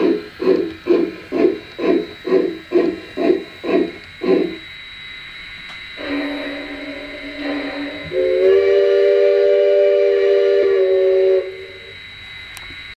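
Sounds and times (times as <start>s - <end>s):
model train steam whistle: 0.0s - 4.6s, 6.0s - 12.1s.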